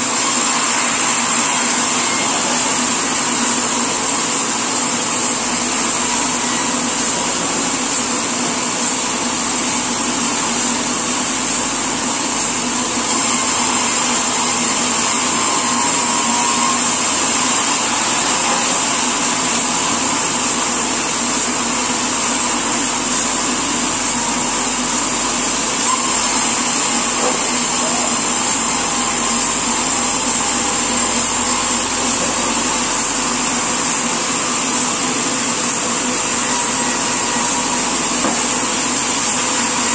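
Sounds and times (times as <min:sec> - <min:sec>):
high mechanical whine: 0:00.0 - 0:39.9
sawmill machinery running: 0:00.0 - 0:39.9.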